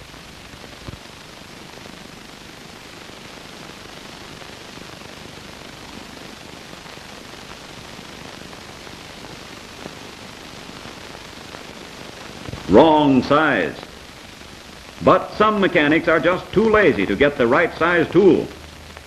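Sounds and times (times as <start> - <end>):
soundtrack hiss: 0.0 - 19.0.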